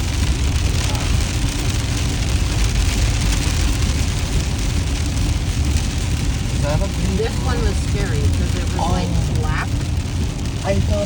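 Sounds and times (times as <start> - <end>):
rain hitting a car: 0.0 - 11.0
road and engine rumble: 0.0 - 11.0.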